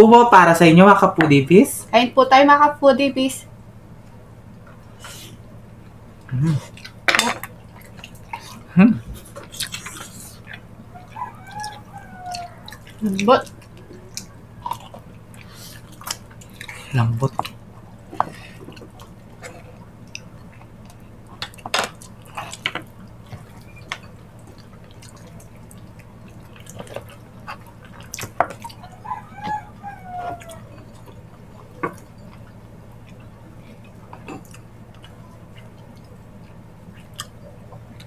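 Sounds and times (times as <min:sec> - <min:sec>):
wet chewing and lip smacks: 0:05.8 - 0:38.0.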